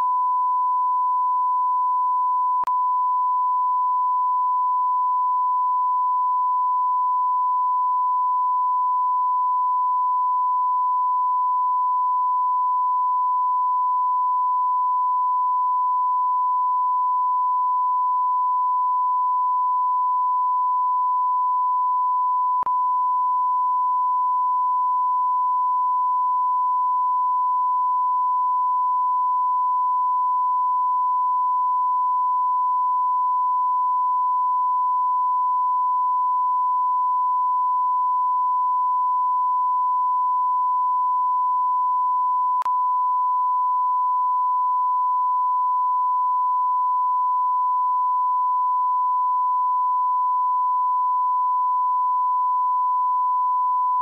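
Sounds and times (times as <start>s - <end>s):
sine-wave test tone: 0.0s - 54.0s.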